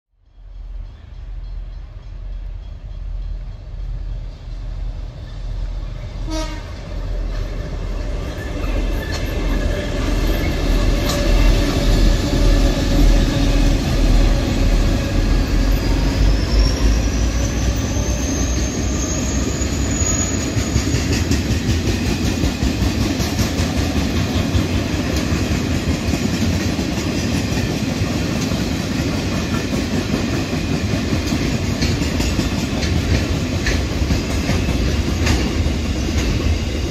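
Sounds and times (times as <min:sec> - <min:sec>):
diesel locomotive engines: 0:00.2 - 0:36.9.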